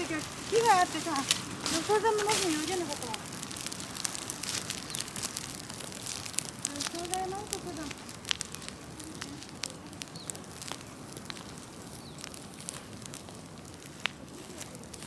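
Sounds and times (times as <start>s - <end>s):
bonfire flames rushing: 0.0s - 15.0s
fire crackling and popping: 0.0s - 15.0s.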